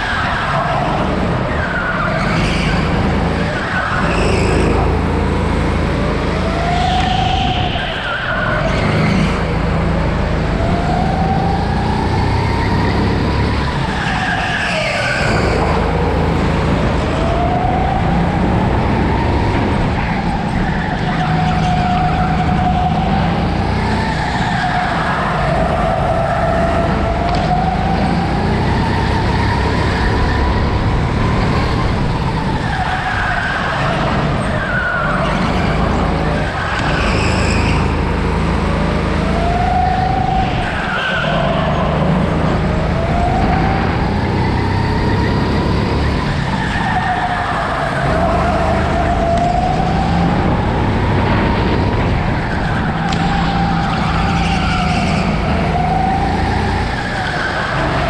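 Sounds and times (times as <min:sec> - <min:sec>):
go-kart motor revving: 0:08.5 - 0:58.0.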